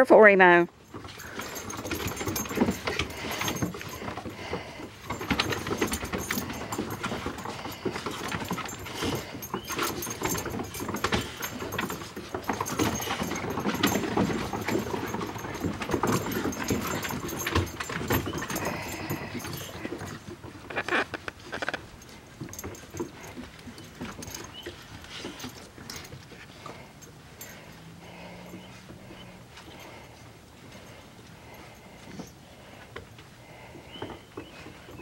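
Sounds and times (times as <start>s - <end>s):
claws scrabbling on wooden deck: 0.7s - 35.0s
puppies whining: 0.8s - 32.4s, 33.8s - 35.0s.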